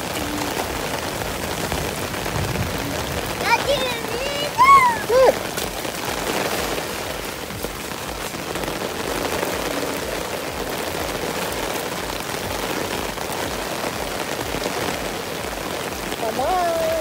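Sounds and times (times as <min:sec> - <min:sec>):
rain pattering on surfaces: 0:00.0 - 0:17.0.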